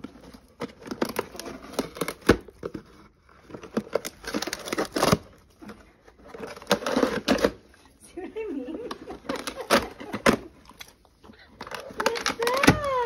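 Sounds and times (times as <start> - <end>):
cardboard ripping and crinkling: 0.0 - 7.8, 8.9 - 13.0.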